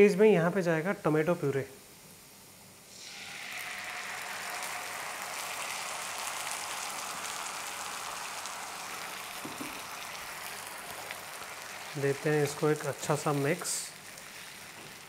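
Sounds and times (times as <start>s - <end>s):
sauce sizzling in hot oil: 2.7s - 15.0s.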